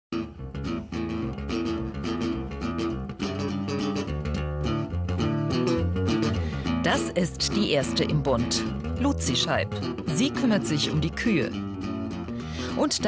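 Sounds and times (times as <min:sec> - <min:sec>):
guitar plucked and strummed: 0:00.1 - 0:13.0
bass line: 0:00.2 - 0:13.0.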